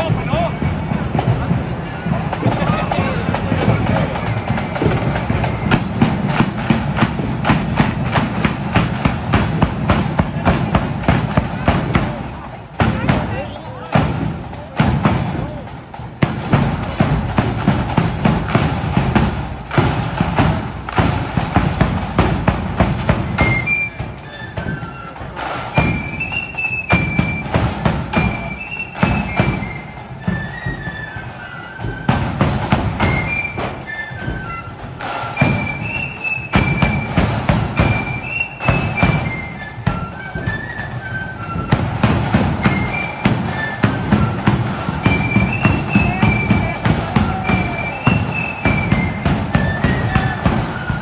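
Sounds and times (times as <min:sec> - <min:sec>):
high flute melody: 0:00.0 - 0:51.0
snare and bass drums marching: 0:00.0 - 0:51.0.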